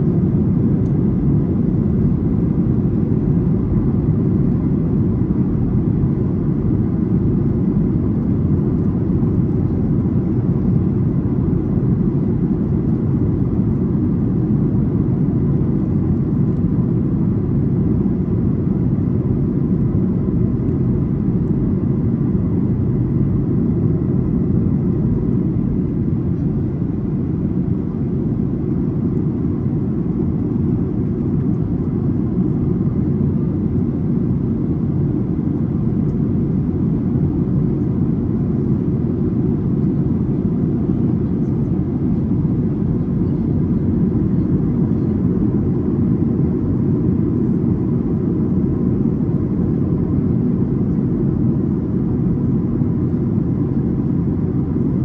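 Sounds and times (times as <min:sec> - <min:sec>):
airliner cabin low rumble: 0:00.0 - 0:55.0.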